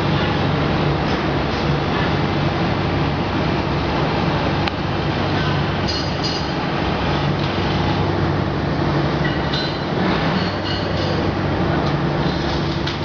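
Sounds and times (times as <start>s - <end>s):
broad rushing noise: 0.0s - 13.0s
constant low hum: 0.0s - 13.0s.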